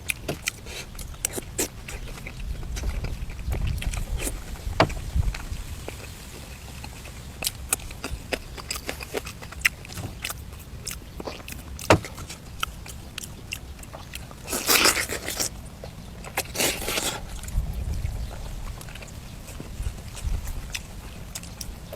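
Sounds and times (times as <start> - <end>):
crunching scraping: 0.0 - 21.9
person chewing food: 0.0 - 21.9.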